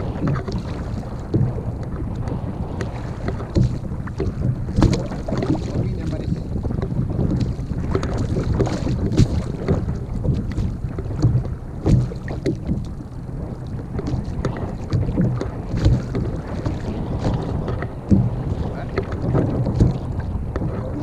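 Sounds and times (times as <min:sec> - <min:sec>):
water slapping hull: 0:00.0 - 0:21.0
wind buffeting microphone: 0:00.0 - 0:21.0.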